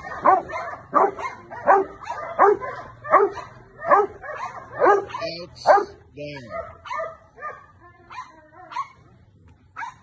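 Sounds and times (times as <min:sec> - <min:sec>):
dog barking: 0:00.0 - 0:09.1, 0:09.8 - 0:10.0.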